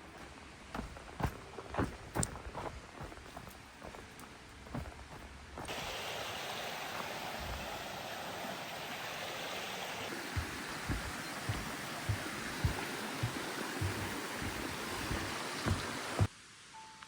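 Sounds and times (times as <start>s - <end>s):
footsteps on path: 0.0s - 7.8s, 10.1s - 16.3s
stream water flowing: 0.0s - 16.3s.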